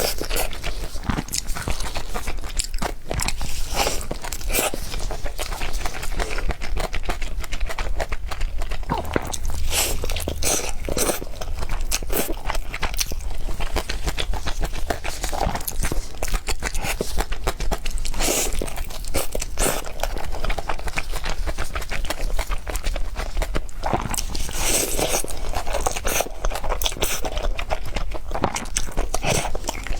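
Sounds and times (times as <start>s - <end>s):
person chewing crunchy food: 0.0s - 29.9s.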